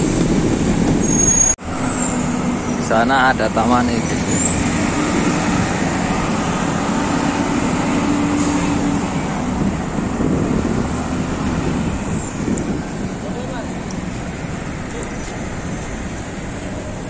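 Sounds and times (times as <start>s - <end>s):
passing cars road noise: 0.0s - 17.0s
vehicle engine humming: 0.0s - 17.0s.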